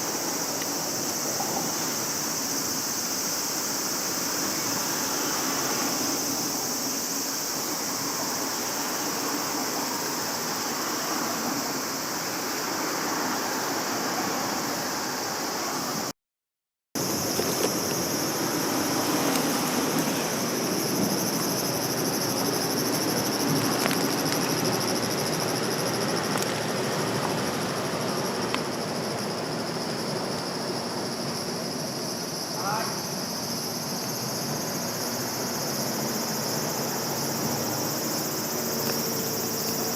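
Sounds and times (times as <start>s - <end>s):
insects chirring: 0.0s - 16.1s, 17.0s - 39.9s.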